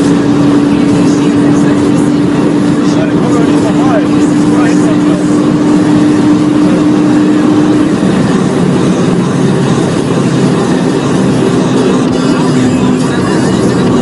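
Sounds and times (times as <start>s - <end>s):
car engine tone: 0.0s - 14.0s
wind and tyre rush: 0.0s - 14.0s.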